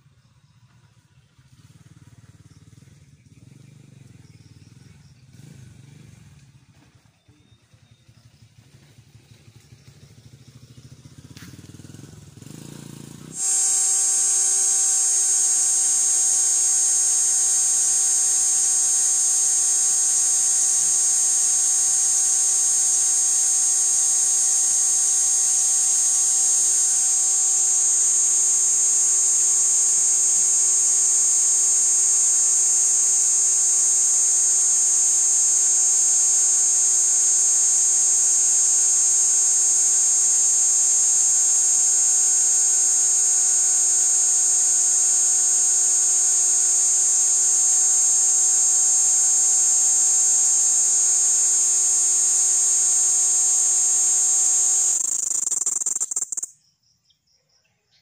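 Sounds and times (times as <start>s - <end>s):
cicada buzzing: 1.2s - 6.6s, 9.6s - 56.7s.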